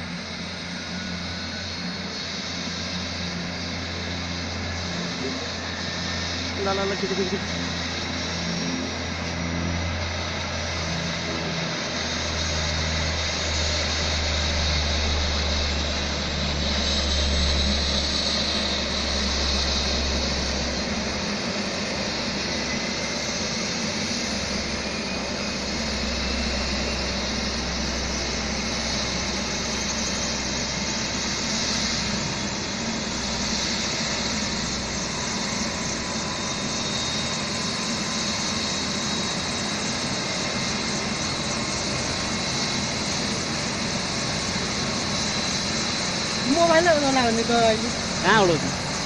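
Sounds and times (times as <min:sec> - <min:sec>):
helicopter turbine engine running: 0:00.0 - 0:49.0.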